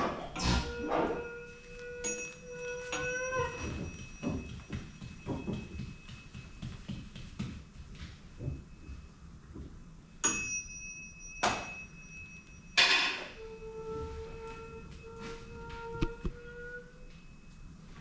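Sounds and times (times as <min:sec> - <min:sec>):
metal percussion ringing: 0:00.0 - 0:06.9, 0:10.2 - 0:17.8.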